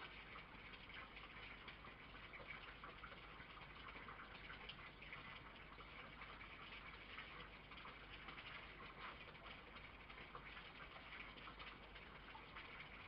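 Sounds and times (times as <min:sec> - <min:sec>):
faint steady hiss: 0:00.0 - 0:13.0
soft irregular ticks: 0:00.0 - 0:13.0.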